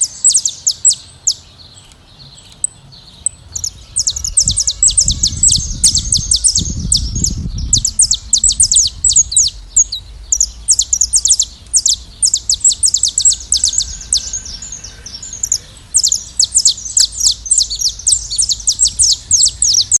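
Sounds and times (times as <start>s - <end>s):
finches chirping: 0.0s - 20.0s
low rumble: 2.9s - 20.0s.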